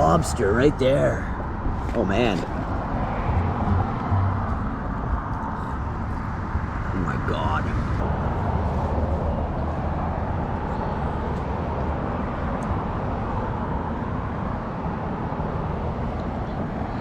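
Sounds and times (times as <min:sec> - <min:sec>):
low vehicle rumble: 0:00.0 - 0:17.0.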